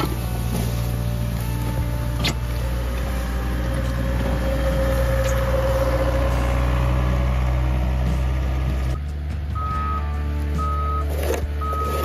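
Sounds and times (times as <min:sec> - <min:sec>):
diesel loader engine under load: 0:00.0 - 0:12.0
engine whine: 0:00.0 - 0:12.0.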